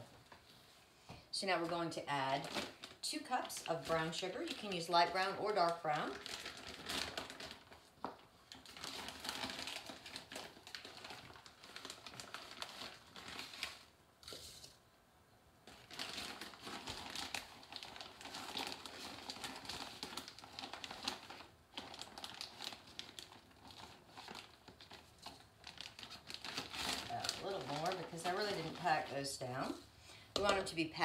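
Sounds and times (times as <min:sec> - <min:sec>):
plastic bag crinkling: 0:02.1 - 0:14.8, 0:15.6 - 0:31.0.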